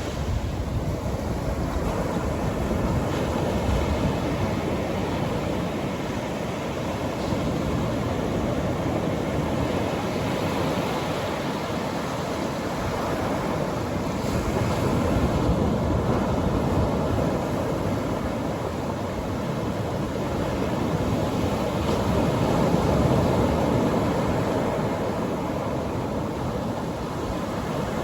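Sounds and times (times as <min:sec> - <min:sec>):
ocean surf on beach: 0:00.0 - 0:28.0
wind on microphone: 0:00.0 - 0:28.0.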